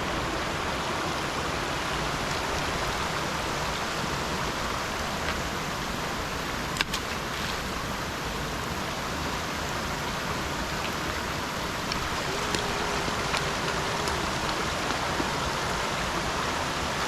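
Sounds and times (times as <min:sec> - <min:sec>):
rain falling: 0:00.0 - 0:17.0
stream running: 0:00.0 - 0:17.0.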